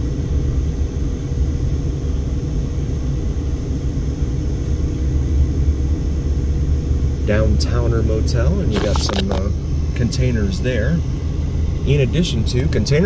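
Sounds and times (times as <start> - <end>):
faint steady hum: 0.0 - 13.0
car cabin road and engine rumble: 2.0 - 13.0.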